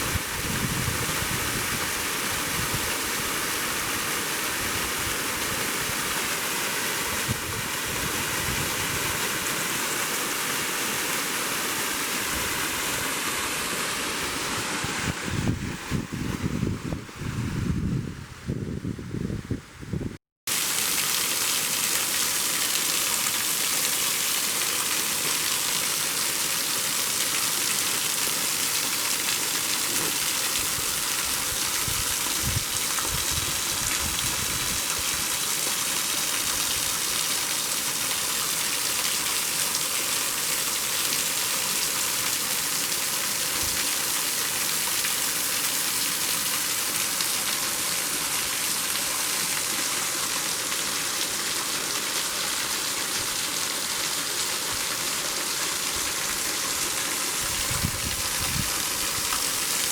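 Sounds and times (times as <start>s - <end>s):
waterfall rushing: 0.0s - 15.5s, 20.5s - 59.9s.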